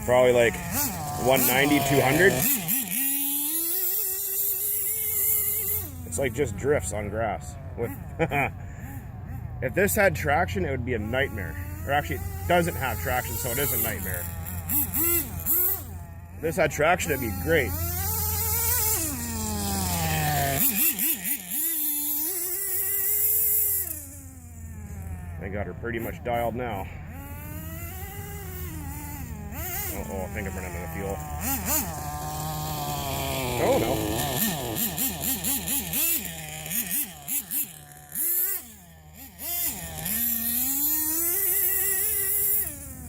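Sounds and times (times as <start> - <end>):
small model engine buzzing: 0.0 - 43.0.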